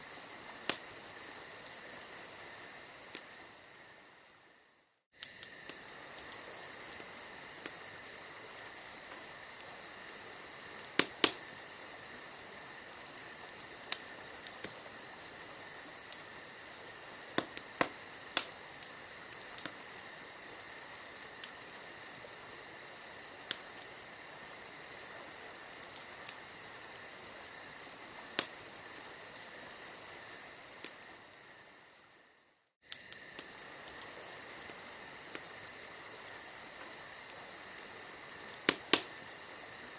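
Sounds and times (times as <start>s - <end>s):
campfire crackling: 0.0s - 39.9s
fire popping: 0.0s - 39.9s
insect trill: 0.0s - 39.9s.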